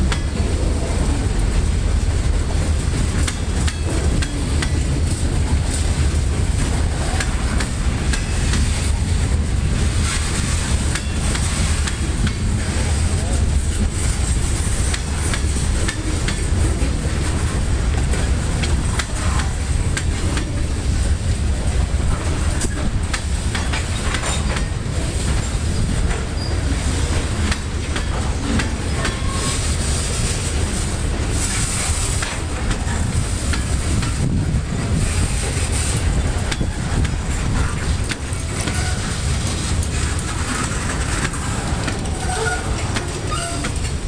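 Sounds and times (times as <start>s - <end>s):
diesel locomotive rumbling: 0.0s - 44.0s
train wheels clicking over rail joints: 0.0s - 44.0s.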